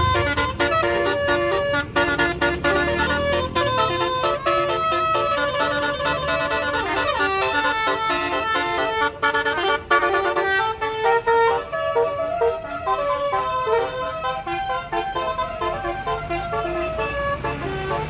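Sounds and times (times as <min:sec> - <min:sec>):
multi-trumpet horn playing a tune: 0:00.0 - 0:18.0.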